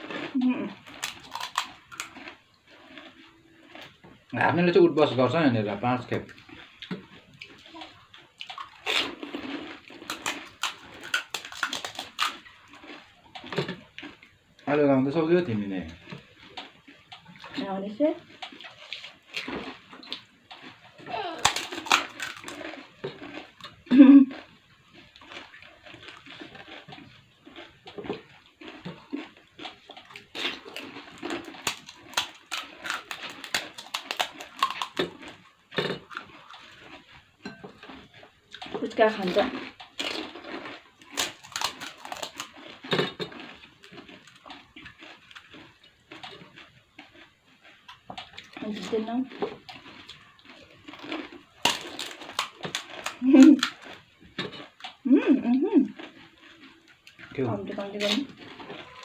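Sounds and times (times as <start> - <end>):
crisp shells crunching: 0.0 - 37.2, 37.8 - 55.0, 55.9 - 59.0.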